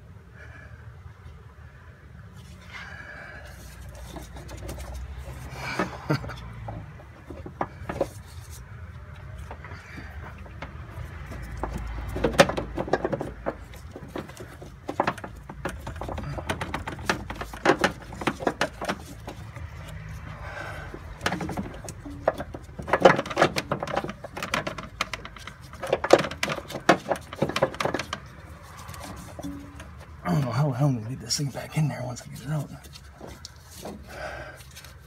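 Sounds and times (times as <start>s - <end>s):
hand tools and metal parts rattling: 2.4s - 35.0s.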